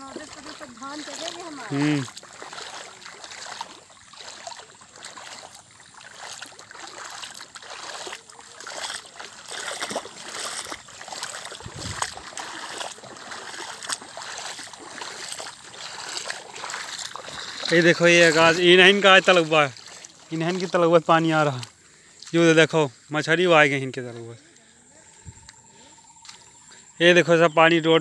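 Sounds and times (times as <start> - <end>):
water flowing and trickling: 0.0 - 23.8
light water splashes: 0.0 - 27.0.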